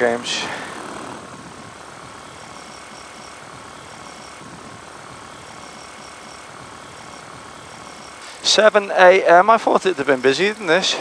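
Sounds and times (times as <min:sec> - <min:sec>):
paramotor engine drone: 0:00.0 - 0:11.0.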